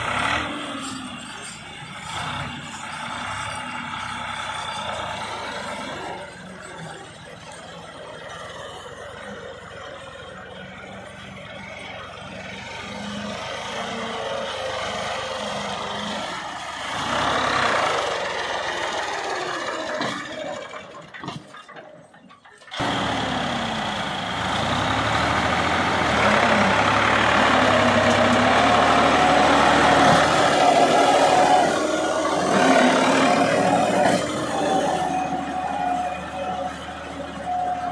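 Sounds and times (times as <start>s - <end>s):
tractor diesel engine working hard: 0.0s - 37.9s.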